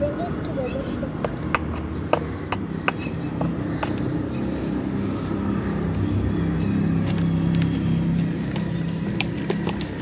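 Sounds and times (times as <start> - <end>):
vehicle engine drone: 0.0 - 10.0.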